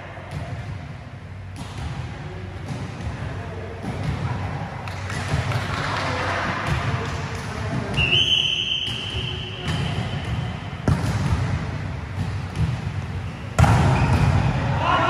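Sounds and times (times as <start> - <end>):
volleyball impacts: 0.2 - 14.9
players' voices: 1.9 - 15.0.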